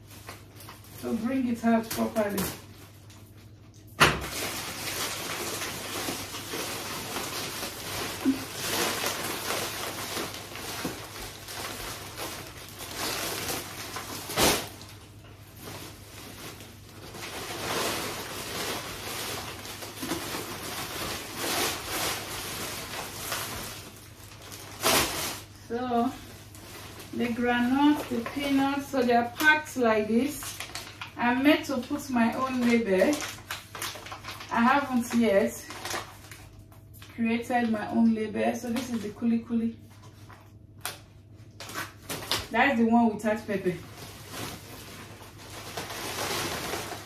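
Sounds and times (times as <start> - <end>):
plastic bags rustling: 0.0 - 47.0.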